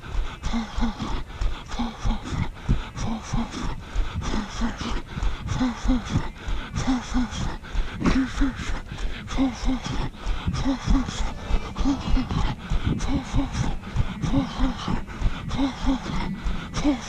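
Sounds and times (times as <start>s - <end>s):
runner breathing heavily: 0.0s - 17.0s
running footfalls: 1.1s - 16.8s.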